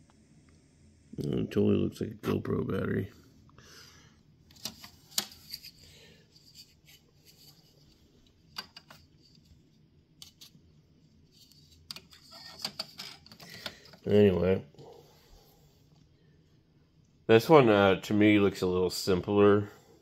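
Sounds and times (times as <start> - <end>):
low room noise: 0.0 - 20.0.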